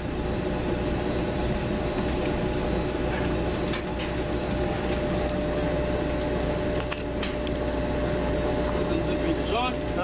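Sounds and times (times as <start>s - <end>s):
mechanical hum with steady tones: 0.0s - 10.0s.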